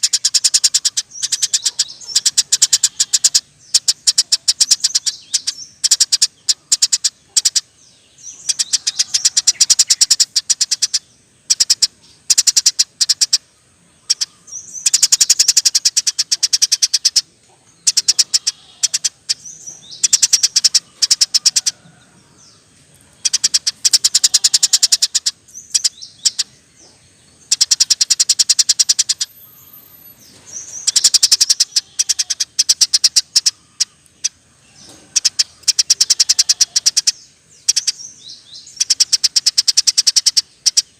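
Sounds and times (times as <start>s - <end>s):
sparrow chattering: 0.0s - 40.9s.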